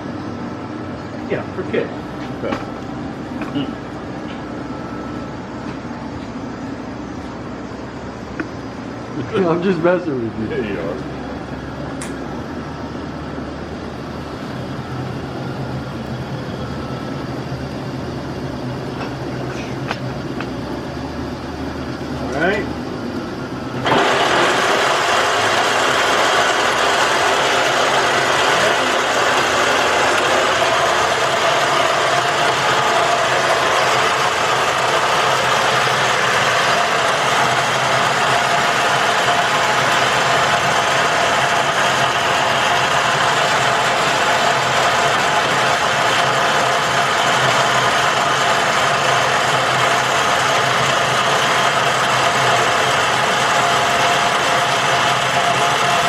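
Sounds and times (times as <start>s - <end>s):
metal lathe running: 7.6s - 56.0s.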